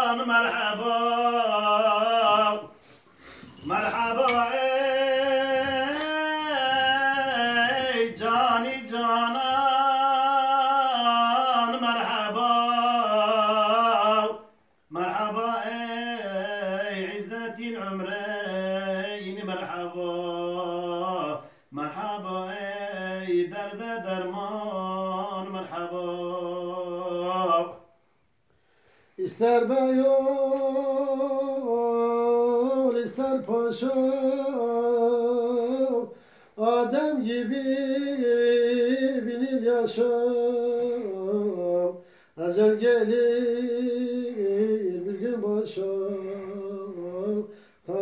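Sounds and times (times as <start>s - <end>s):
man singing hymn unaccompanied: 0.0s - 28.0s, 29.2s - 48.0s.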